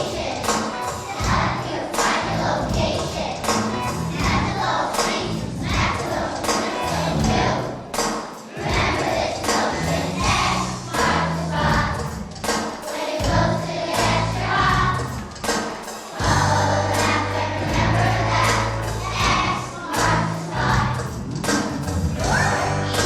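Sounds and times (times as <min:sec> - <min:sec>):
children's choir singing: 0:00.0 - 0:23.0
instrumental accompaniment with beat: 0:00.0 - 0:23.0.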